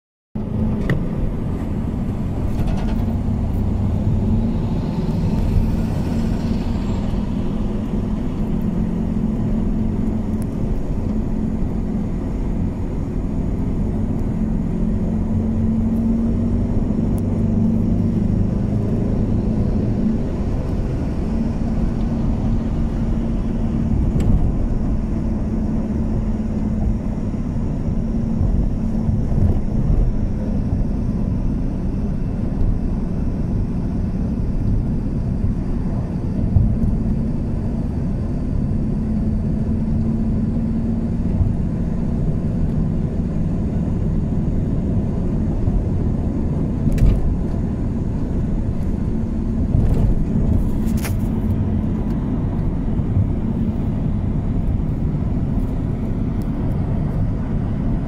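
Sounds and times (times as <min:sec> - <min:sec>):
car engine and tyre rumble: 0:00.4 - 0:58.0.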